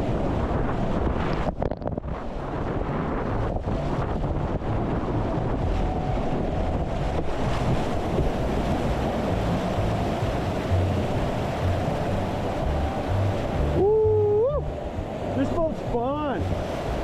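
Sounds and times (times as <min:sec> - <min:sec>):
wind buffeting microphone: 0:00.0 - 0:17.0
rushing whitewater river: 0:02.5 - 0:17.0.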